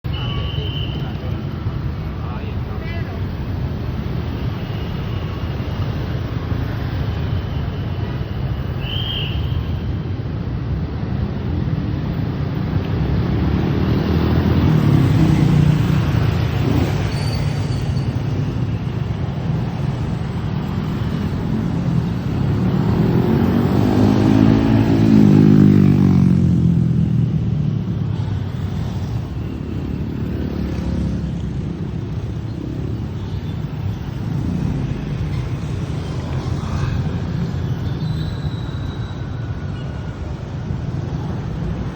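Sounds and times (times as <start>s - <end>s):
road traffic: 0.0s - 41.9s.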